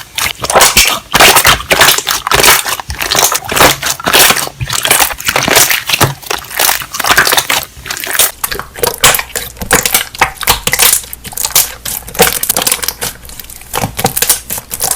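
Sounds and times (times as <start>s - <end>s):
air bubbles popping: 0.0s - 14.9s.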